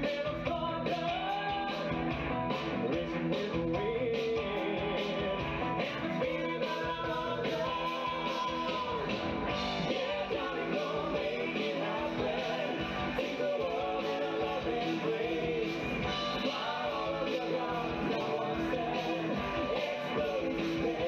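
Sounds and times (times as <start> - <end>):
person singing: 0.0 - 2.0, 2.7 - 21.0
live rock and roll band: 0.0 - 21.0.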